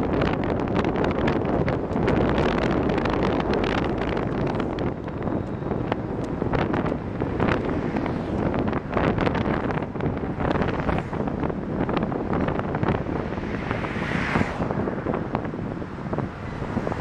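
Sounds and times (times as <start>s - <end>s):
street traffic rumble: 0.0s - 17.0s
wind buffeting microphone: 0.0s - 17.0s.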